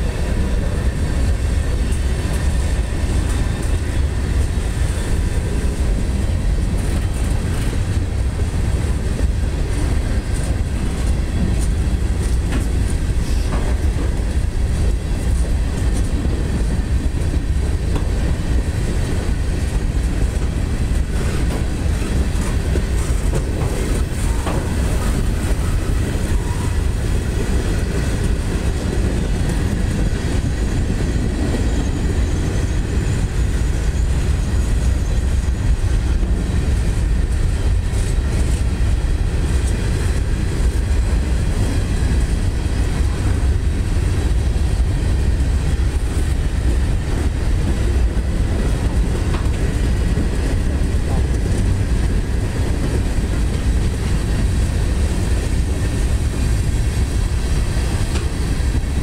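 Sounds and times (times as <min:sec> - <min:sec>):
freight cars rumbling on track: 0:00.0 - 0:59.0.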